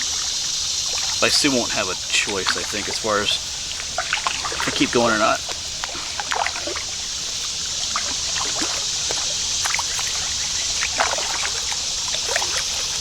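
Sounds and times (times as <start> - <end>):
paddle splashes and drips: 0.0 - 13.0
water rushing: 0.0 - 13.0.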